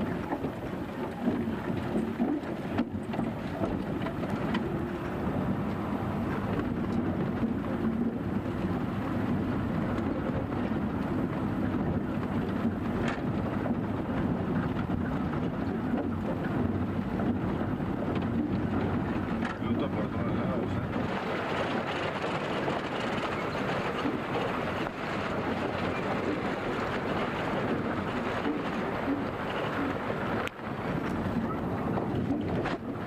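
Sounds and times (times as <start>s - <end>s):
knocks and rattles: 0.0s - 33.0s
road noise on dirt street: 0.0s - 33.0s.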